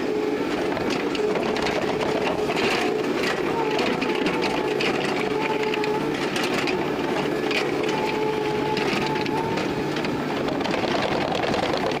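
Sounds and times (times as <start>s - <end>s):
engine whine: 0.0s - 12.0s
excavator diesel engine clattering: 0.4s - 12.0s.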